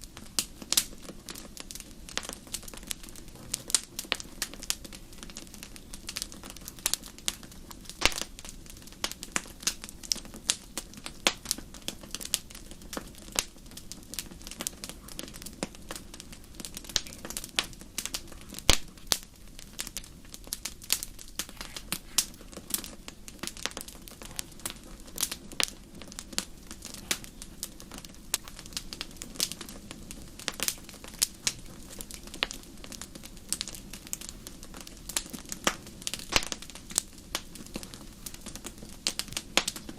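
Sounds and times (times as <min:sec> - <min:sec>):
wood fire crackling: 0:00.0 - 0:39.9
sharp pops and snaps: 0:00.1 - 0:39.9.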